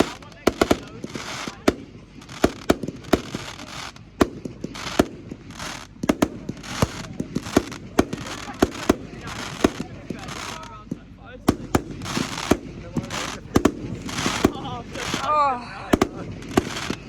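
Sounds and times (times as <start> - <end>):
fireworks bangs: 0.0 - 17.0
fireworks hissing crackle: 0.0 - 17.0.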